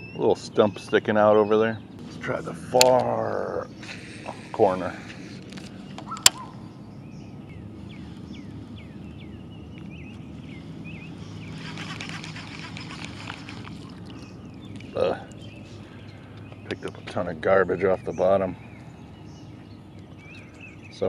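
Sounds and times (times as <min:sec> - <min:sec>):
steady low hum: 0:00.0 - 0:21.0
small bird chirping: 0:03.5 - 0:21.0.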